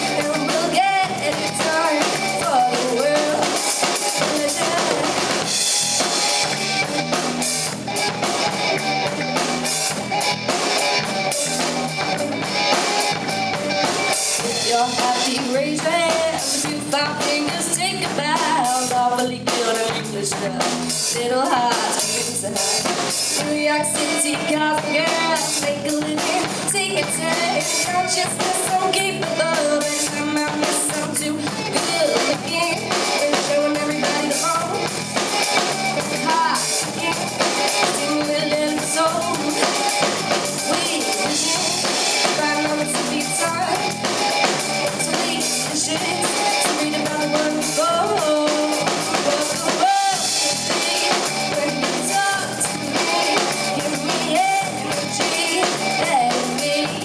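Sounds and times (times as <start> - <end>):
woman singing: 0.0 - 5.4, 14.4 - 57.0
bass guitar: 0.0 - 57.0
drum kit beat: 0.0 - 57.0
electric guitar: 0.0 - 57.0.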